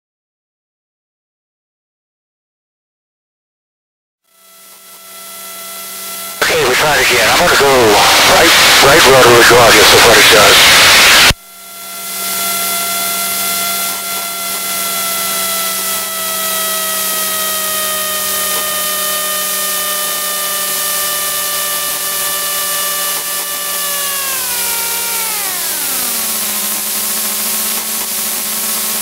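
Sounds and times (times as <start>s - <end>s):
propeller engine droning: 4.6s - 29.0s.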